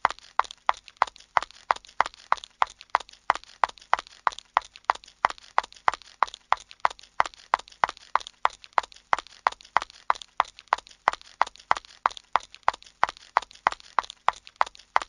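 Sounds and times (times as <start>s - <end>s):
high heel footsteps running: 0.1s - 15.0s.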